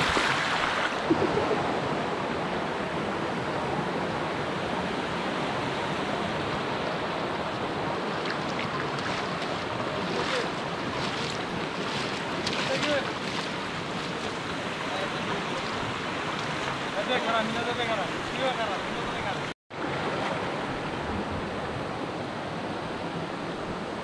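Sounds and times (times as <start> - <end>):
water rushing over rocks: 0.0 - 3.4, 5.7 - 21.8.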